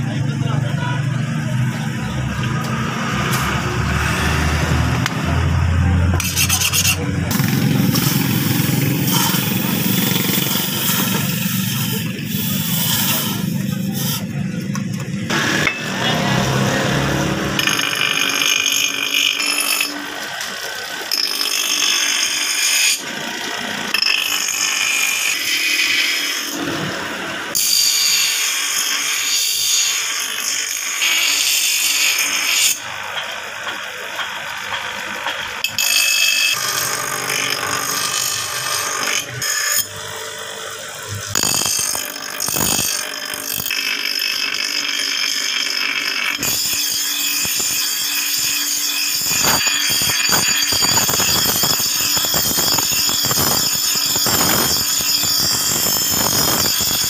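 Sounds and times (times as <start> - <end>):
power tool working steel: 0.0 - 57.0.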